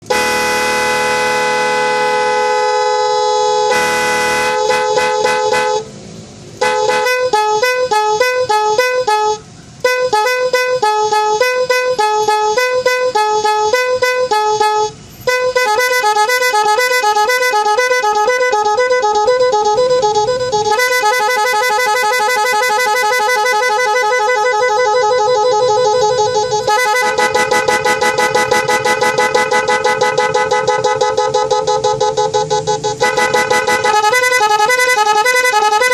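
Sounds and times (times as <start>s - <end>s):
multi-tone vehicle horn warbling: 0.0s - 6.0s, 6.6s - 35.9s.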